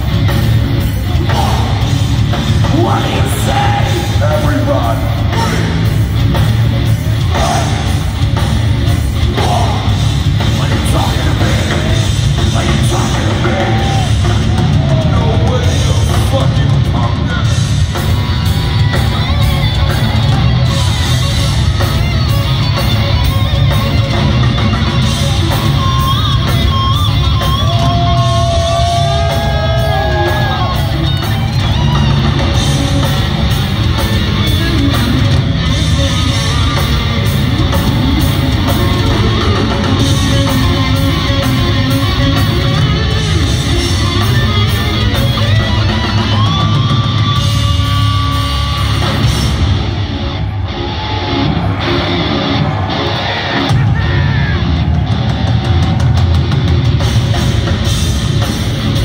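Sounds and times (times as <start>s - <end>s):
bending guitar line: 0.0s - 59.0s
heavy metal band playing live: 0.0s - 59.0s.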